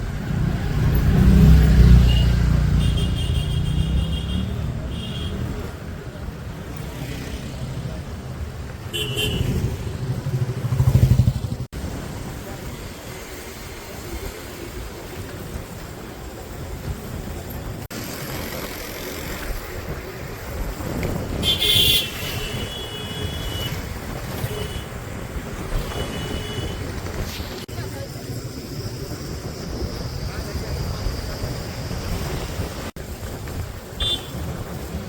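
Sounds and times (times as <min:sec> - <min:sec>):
street traffic: 0:00.0 - 0:35.0.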